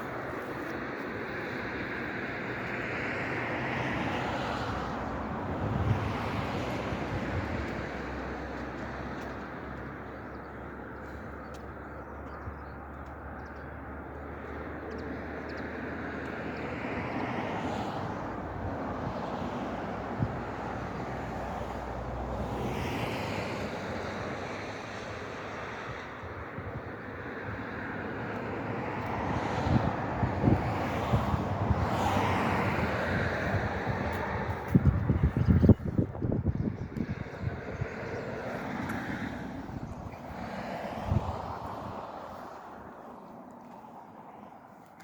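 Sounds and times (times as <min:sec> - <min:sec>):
wind rumble on microphone: 0:00.0 - 0:10.7, 0:12.0 - 0:43.8.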